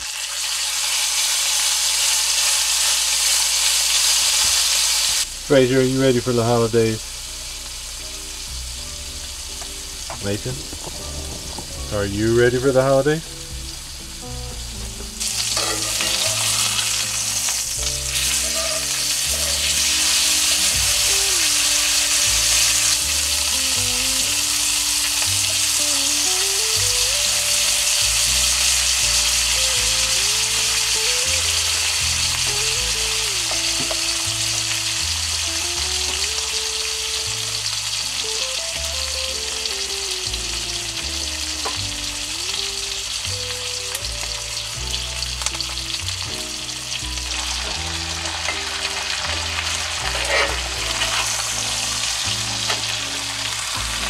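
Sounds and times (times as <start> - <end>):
steak sizzling in a skillet: 0.0 - 54.0
slow background music with bass: 0.8 - 54.0.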